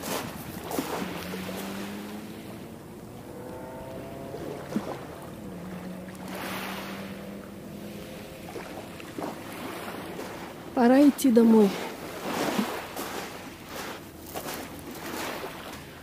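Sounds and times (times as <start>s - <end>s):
ship engine droning: 0.0s - 16.0s
waves washing on shore: 0.0s - 16.0s.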